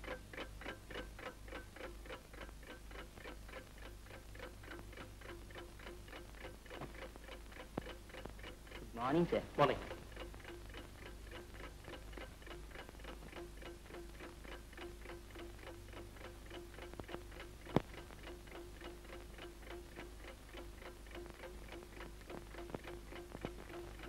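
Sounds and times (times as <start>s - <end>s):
clock ticking quickly: 0.0s - 24.0s
faint steady hum: 0.0s - 24.0s.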